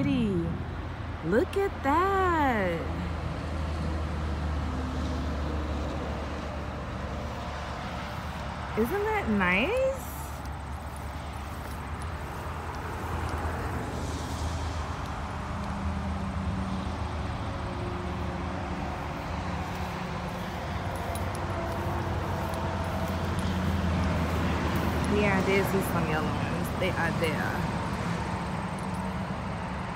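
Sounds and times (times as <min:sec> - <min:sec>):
outdoor background noise: 0:00.0 - 0:29.9
vehicle engine humming: 0:00.0 - 0:29.9.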